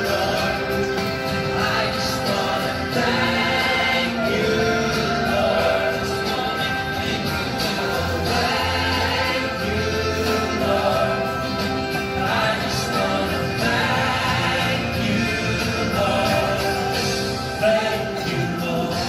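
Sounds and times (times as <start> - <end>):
voices singing slow song: 0.0 - 19.0.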